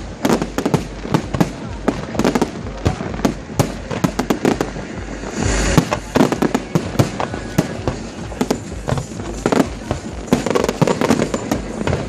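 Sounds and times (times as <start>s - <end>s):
fireworks bangs: 0.0s - 12.0s
fireworks crackling hiss: 0.0s - 12.0s.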